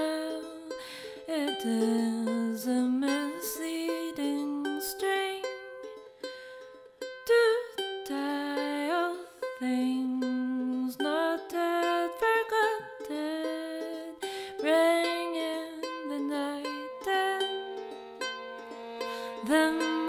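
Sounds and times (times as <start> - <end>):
woman singing folk song: 0.0 - 20.0.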